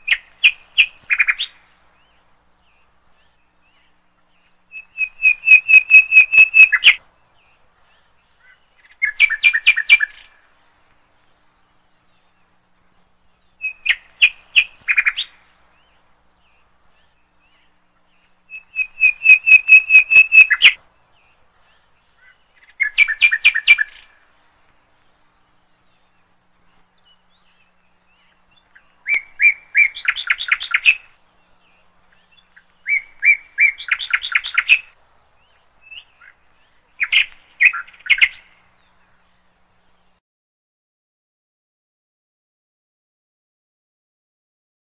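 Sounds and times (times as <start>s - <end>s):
songbird singing: 0.0s - 40.2s.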